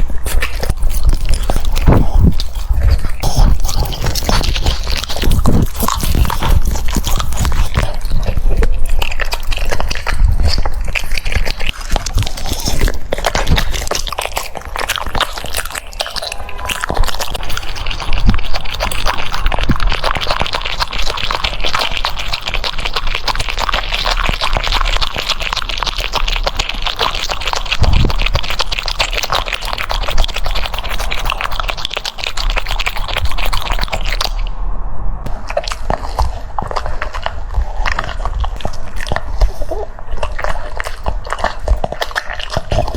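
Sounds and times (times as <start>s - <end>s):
dog crunching and chewing food: 0.0s - 34.5s, 35.3s - 42.9s.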